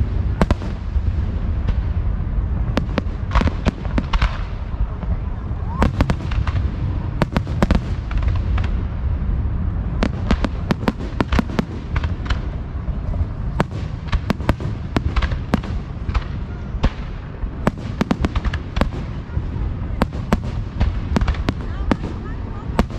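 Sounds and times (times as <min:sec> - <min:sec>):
deep rumble: 0:00.0 - 0:22.9
fireworks cracks and bangs: 0:00.0 - 0:22.9.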